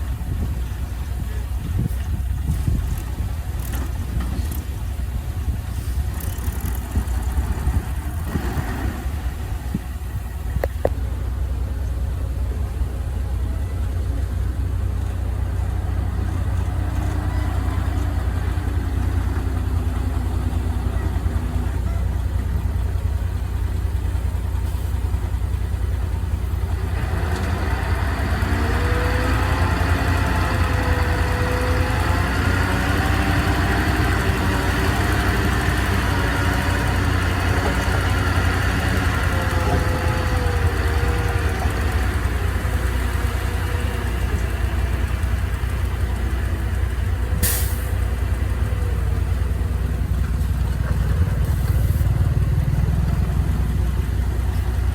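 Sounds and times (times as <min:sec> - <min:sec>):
heavy machine engine rumbling: 0:00.0 - 0:54.9.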